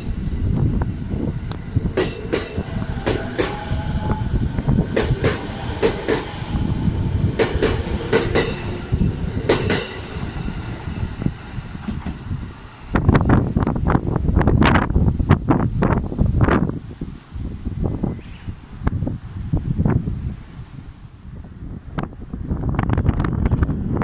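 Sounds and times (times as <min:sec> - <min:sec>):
train rumbling on track: 0:00.0 - 0:24.0.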